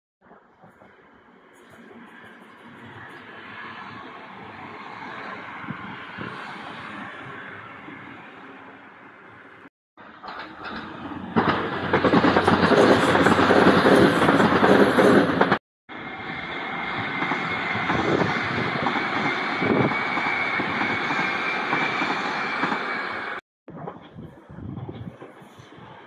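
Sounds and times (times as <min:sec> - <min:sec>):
train passing on tracks: 0:00.2 - 0:26.0.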